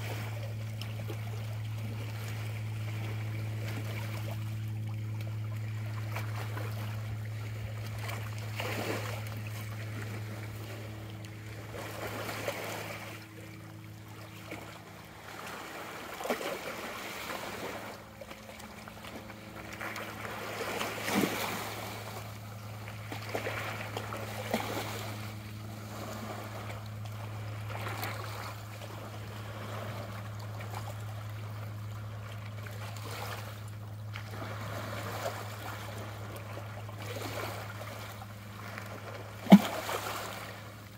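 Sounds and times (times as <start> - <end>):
steady low hum: 0.0 - 40.9
waves lapping on pebbly shore: 0.0 - 40.9.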